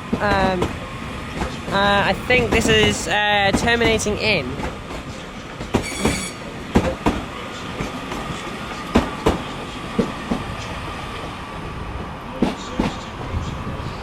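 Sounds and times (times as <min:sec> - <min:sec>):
train wheels clattering: 0:00.0 - 0:11.2.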